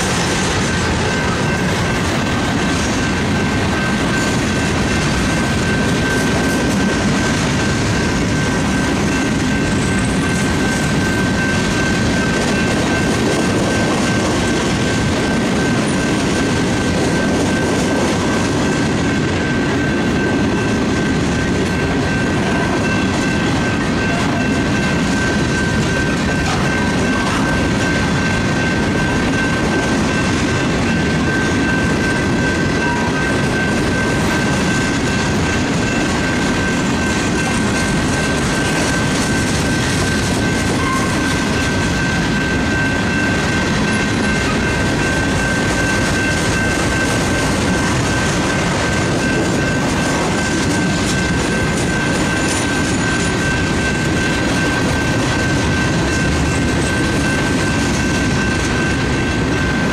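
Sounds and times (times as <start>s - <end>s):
steady high tone: 0.0s - 59.9s
train wheels rumbling on rail: 0.0s - 59.9s.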